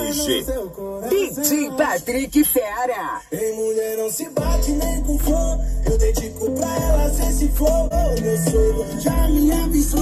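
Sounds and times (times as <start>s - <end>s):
loud bass-heavy music with beat: 0.0s - 10.0s.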